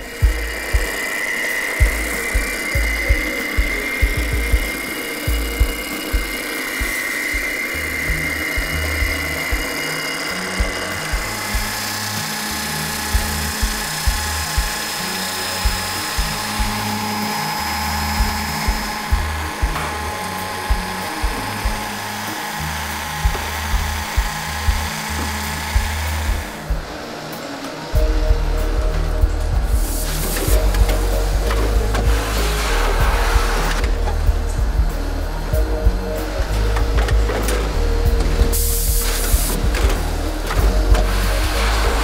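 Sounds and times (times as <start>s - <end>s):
background music with steady beat: 0.0s - 42.0s
electric cloth cutter whining: 0.0s - 42.0s.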